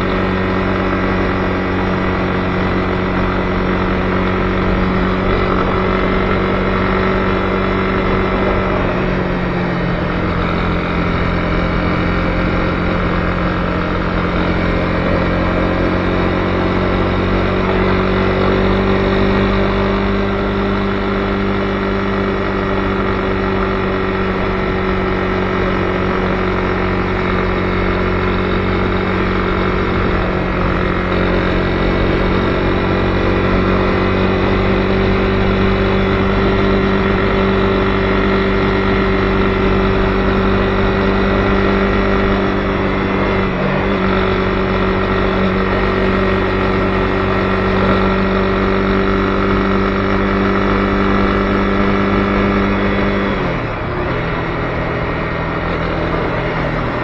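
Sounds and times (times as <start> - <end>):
motorcycle engine cruising: 0.0 - 57.0
road noise rushing: 0.0 - 57.0.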